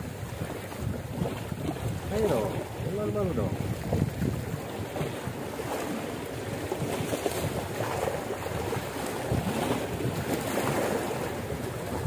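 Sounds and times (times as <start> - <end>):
water washing against rocks: 0.0 - 12.0
wind buffeting microphone: 0.0 - 12.0.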